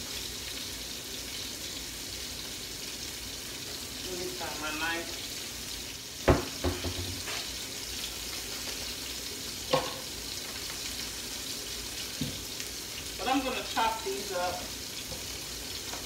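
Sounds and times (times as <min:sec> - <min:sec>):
meat sizzling in a skillet: 0:00.0 - 0:16.0.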